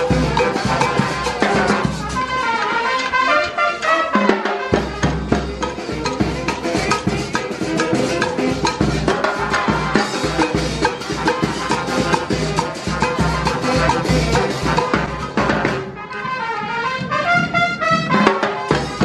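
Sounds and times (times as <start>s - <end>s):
drums and percussion beat: 0.0s - 19.0s.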